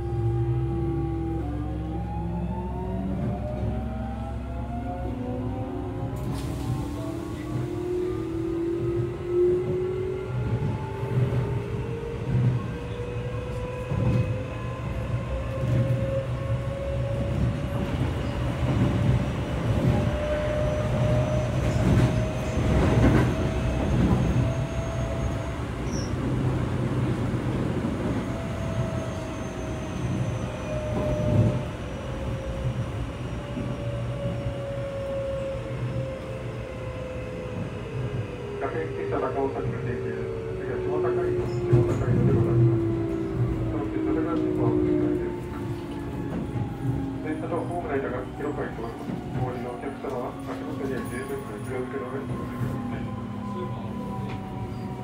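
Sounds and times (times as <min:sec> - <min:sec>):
train wheels rumbling on rail: 0:05.0 - 0:55.0.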